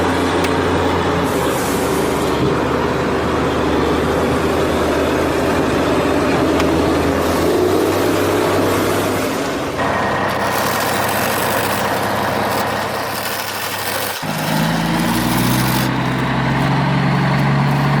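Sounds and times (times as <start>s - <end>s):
model truck engine: 0.0s - 18.0s.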